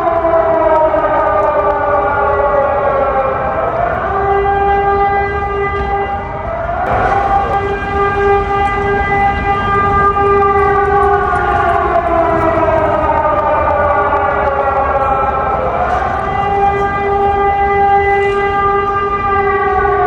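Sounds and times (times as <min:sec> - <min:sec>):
air-raid sirens wailing: 0:00.0 - 0:20.0.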